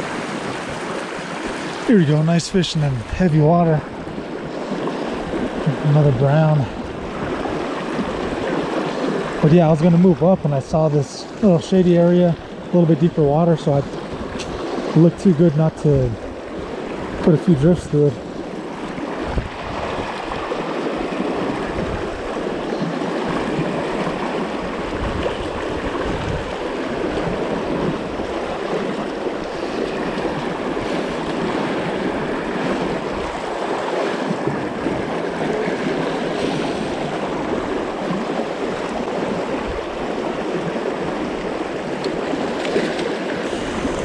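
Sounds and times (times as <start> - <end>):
river water rushing over rocks: 0.0 - 44.0.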